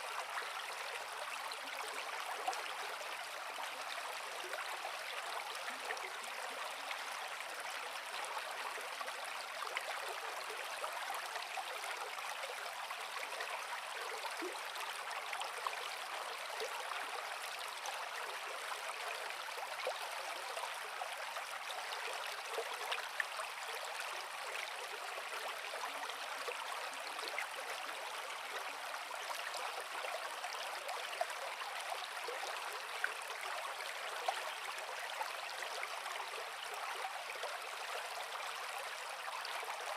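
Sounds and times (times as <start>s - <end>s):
creek water flowing over rocks: 0.0s - 39.9s.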